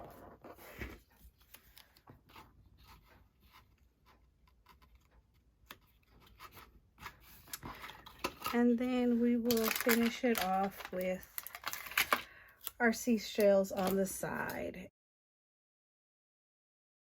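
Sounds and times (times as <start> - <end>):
paper rustling: 0.0 - 12.7, 13.4 - 14.5.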